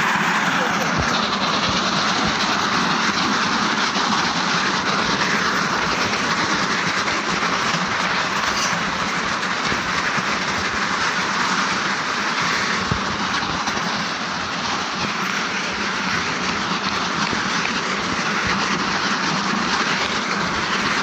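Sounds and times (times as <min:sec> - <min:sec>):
tyres scraping over gravel: 0:00.0 - 0:21.0.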